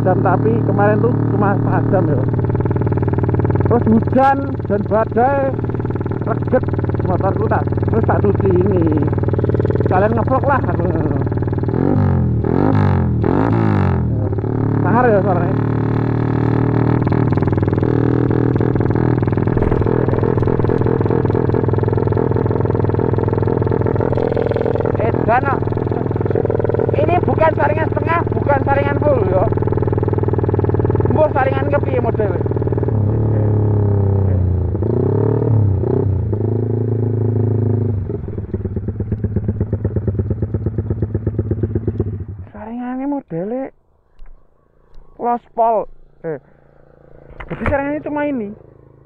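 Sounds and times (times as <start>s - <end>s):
motorcycle engine running: 0.0s - 43.4s, 44.2s - 49.0s.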